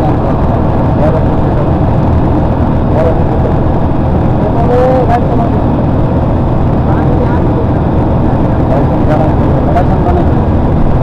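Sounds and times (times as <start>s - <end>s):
vehicle road and engine noise: 0.0s - 11.0s.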